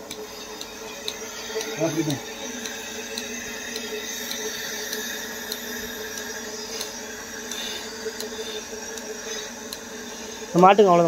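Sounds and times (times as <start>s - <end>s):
pulsator clicking: 0.0s - 11.0s
vacuum pump humming: 0.0s - 11.0s.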